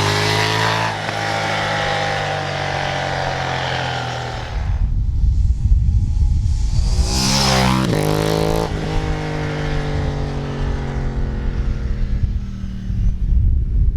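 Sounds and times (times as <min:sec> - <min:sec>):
motorcycle accelerating past: 0:00.0 - 0:04.8, 0:06.5 - 0:13.2.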